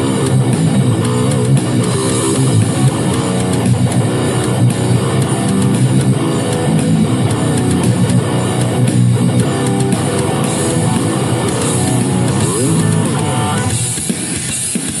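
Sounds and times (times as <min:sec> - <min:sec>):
drums with cymbals: 0:00.0 - 0:15.0
electric guitar metal riff: 0:00.0 - 0:15.0.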